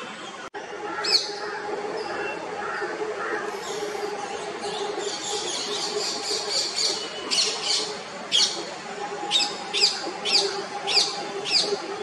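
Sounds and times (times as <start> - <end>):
birds chattering: 0.9 - 12.0.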